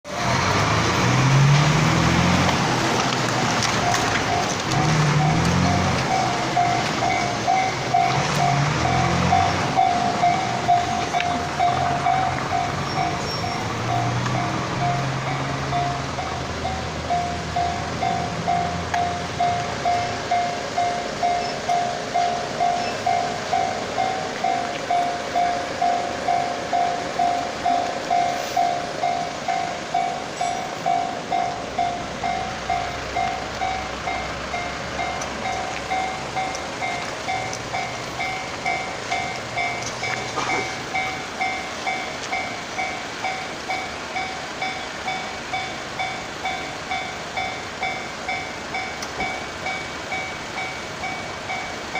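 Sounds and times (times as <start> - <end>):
level crossing warning bell: 0.2 - 51.9.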